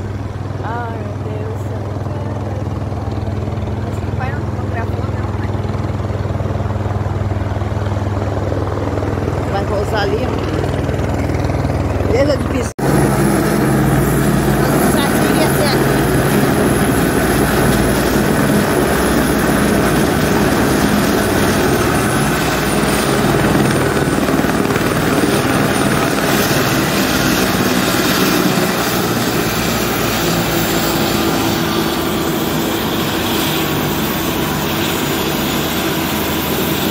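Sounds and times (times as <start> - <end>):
helicopter engine and rotor running: 0.0 - 36.9.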